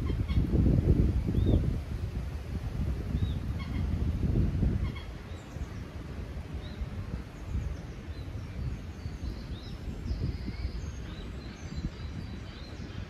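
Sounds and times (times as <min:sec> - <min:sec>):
small birds chirping: 0:00.0 - 0:01.8, 0:03.1 - 0:04.0, 0:04.7 - 0:13.0.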